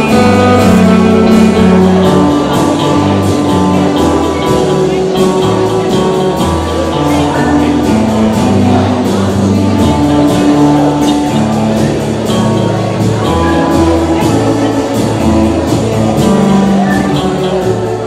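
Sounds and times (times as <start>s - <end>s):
drum kit beat: 0.0s - 18.0s
electric bass: 0.0s - 18.0s
electric guitar: 0.0s - 18.0s
keyboard: 0.0s - 18.0s.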